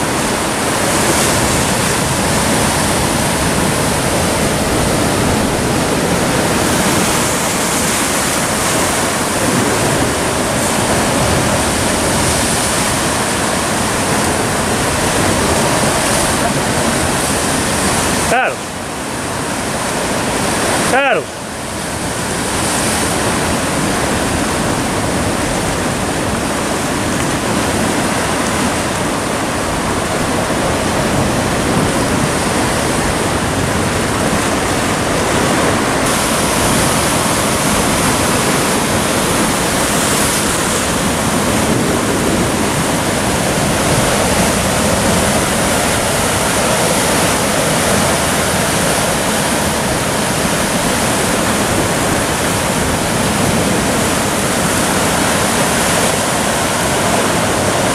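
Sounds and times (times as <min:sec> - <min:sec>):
surf breaking over rocks: 0:00.0 - 0:57.9.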